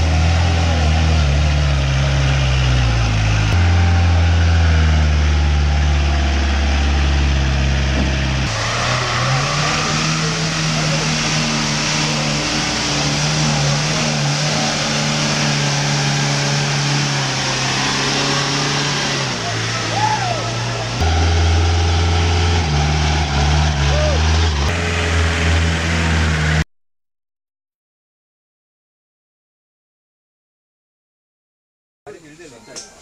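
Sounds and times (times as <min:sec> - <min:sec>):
off-road vehicle engines revving: 0:00.0 - 0:26.6.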